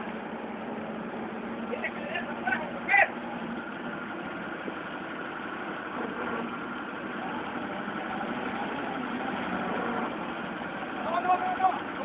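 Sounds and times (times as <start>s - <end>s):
forklift engines idling: 0.0s - 12.0s.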